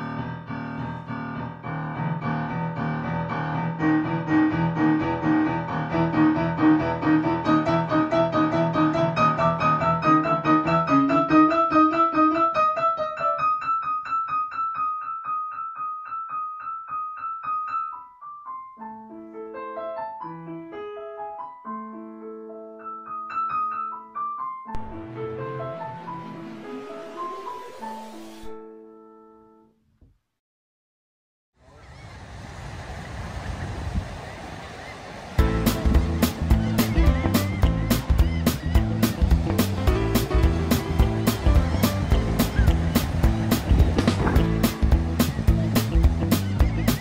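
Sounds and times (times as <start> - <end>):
piano music: 0.0 - 29.7, 35.4 - 47.0.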